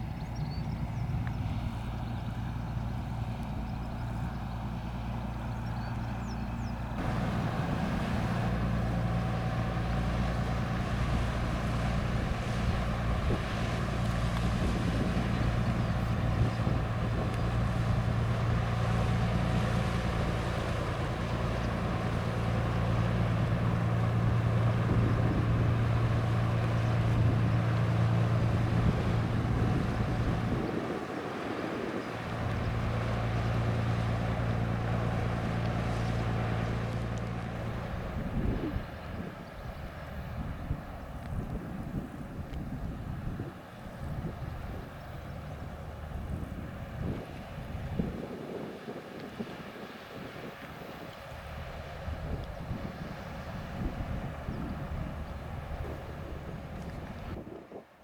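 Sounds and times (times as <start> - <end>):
boat diesel engine humming: 0.0 - 58.0
wind on microphone: 7.0 - 33.8, 34.5 - 57.9.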